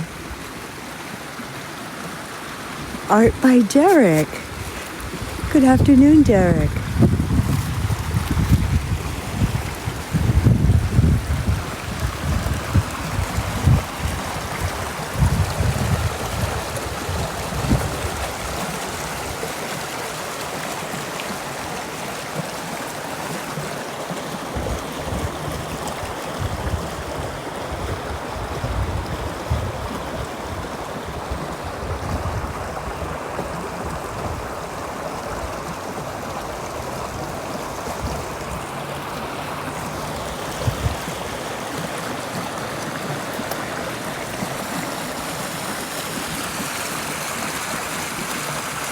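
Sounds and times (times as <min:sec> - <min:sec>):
water rushing in stream: 0:00.0 - 0:48.9.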